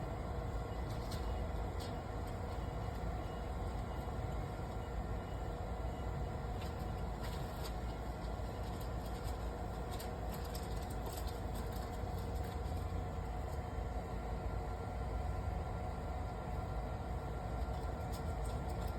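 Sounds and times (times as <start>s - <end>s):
geared drive humming: 0.0s - 18.9s.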